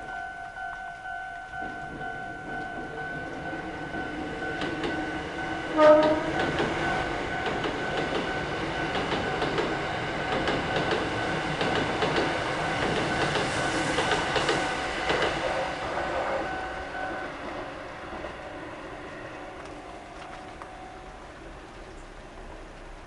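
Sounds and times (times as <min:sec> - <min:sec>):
train wheels clacking: 0:00.0 - 0:21.0
crossing warning bell: 0:00.0 - 0:21.4.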